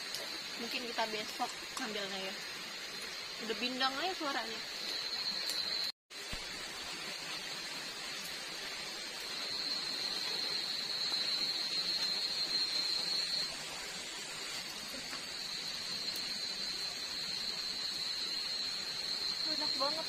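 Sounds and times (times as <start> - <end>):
constant hiss: 0.0 - 20.0
night insects chorus: 0.0 - 20.0.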